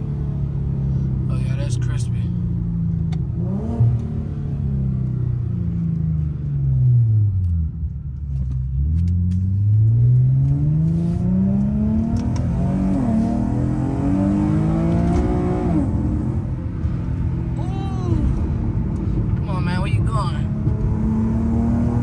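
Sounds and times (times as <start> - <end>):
car engine revving: 0.0 - 7.5, 8.3 - 22.0.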